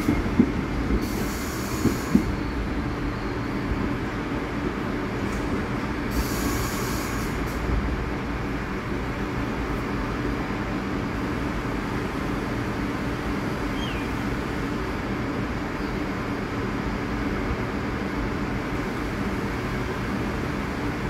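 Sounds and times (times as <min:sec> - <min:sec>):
subway train humming: 0:00.0 - 0:21.0.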